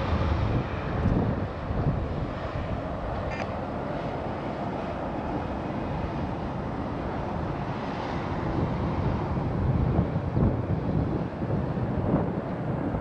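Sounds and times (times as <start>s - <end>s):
highway traffic rumble: 0.0s - 13.0s
wind on microphone: 0.0s - 13.0s.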